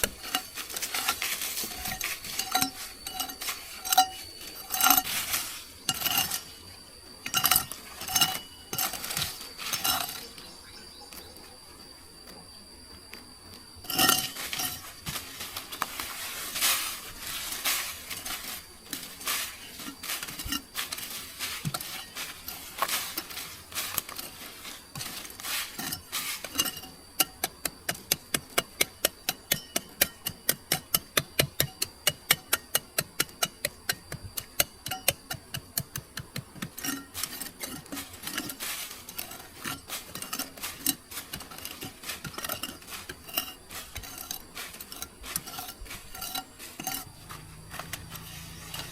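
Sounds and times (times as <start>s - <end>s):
utensils clinking on dishes: 0.0s - 6.6s, 7.2s - 10.4s, 13.8s - 15.5s, 17.5s - 36.0s, 36.6s - 48.9s.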